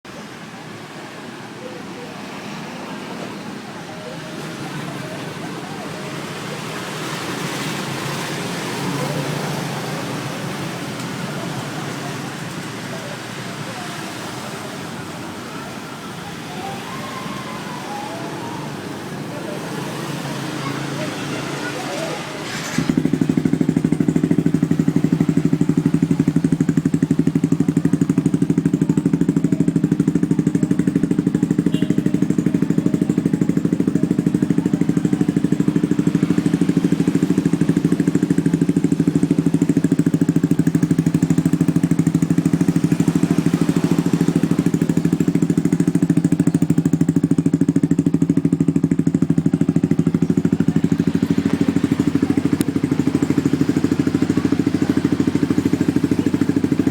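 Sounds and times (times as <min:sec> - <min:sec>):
motorcycle idling: 0:00.1 - 0:56.9.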